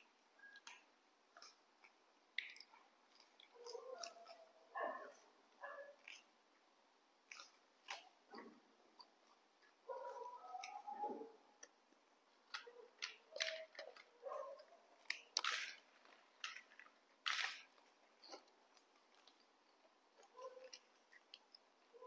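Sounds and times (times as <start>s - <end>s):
monkeys chewing crunchy snacks: 0.0s - 5.3s, 5.9s - 22.0s.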